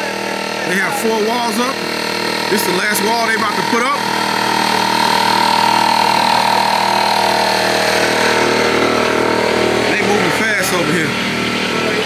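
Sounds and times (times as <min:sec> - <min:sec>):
air compressor motor drone: 0:00.0 - 0:12.0
high-pitched compressor whine: 0:00.0 - 0:12.0.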